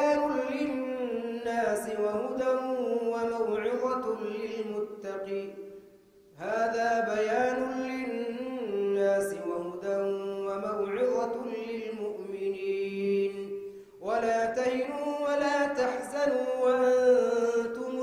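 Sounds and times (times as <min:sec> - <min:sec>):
man chanting recitation through microphone: 0:00.0 - 0:05.8, 0:06.4 - 0:18.0.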